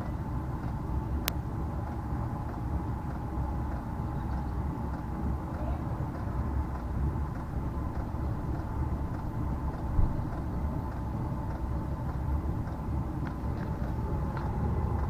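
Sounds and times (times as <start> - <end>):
heater low rumble: 0.0 - 15.0
thin steady whine: 0.0 - 15.0.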